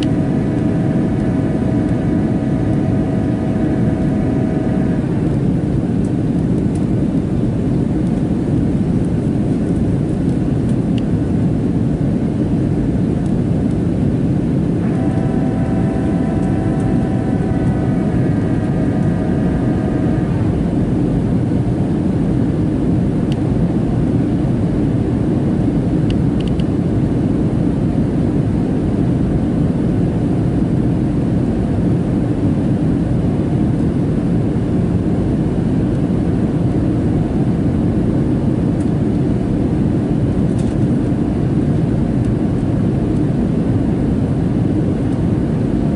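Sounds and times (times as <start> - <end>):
aircraft cabin engine roar: 0.0 - 45.9
steady whine: 0.0 - 45.9.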